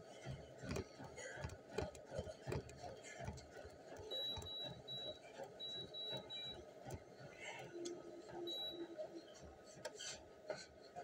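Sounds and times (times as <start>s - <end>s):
footfalls on a treadmill: 0.0s - 10.7s.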